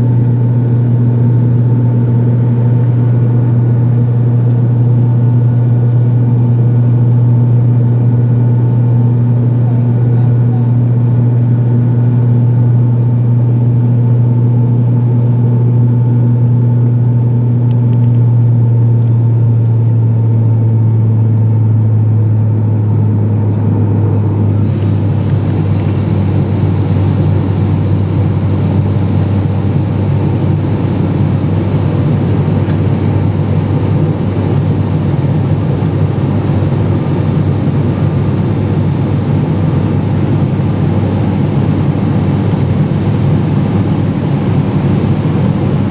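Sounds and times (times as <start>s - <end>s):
turboprop engine drone in cabin: 0.0s - 45.9s.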